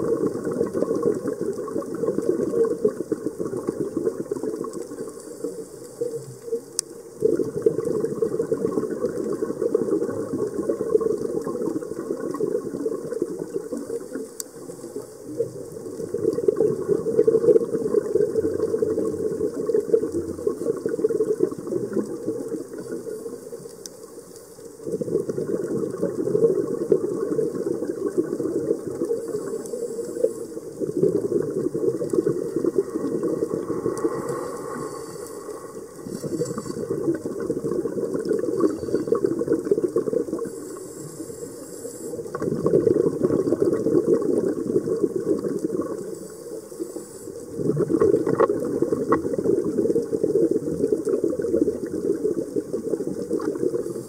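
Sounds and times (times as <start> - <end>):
regulator bubbles gurgling: 0.0 - 54.0.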